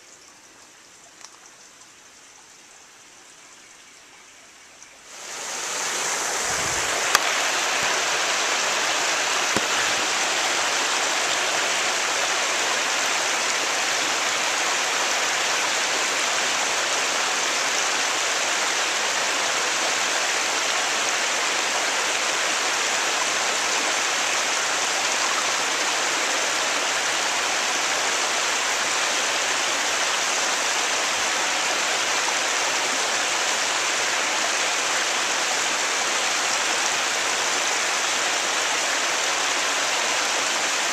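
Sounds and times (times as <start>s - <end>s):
water rushing over rocks: 5.0s - 40.9s.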